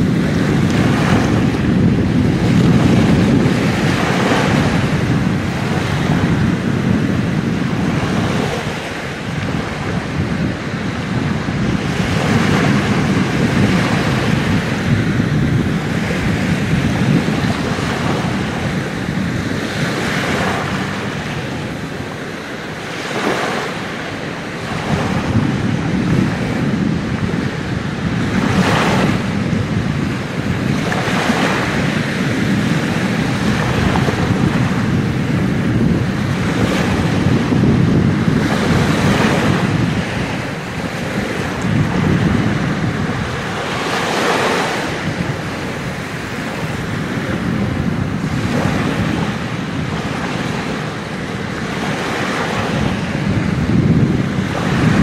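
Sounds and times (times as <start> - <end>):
steady sea noise: 0.0 - 55.0
waves breaking on sand: 0.0 - 55.0
wind buffeting microphone: 0.0 - 55.0.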